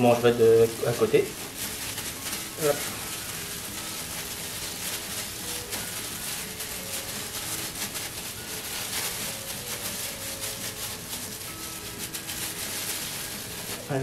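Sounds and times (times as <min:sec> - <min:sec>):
plastic gloves crinkling: 0:00.0 - 0:14.0.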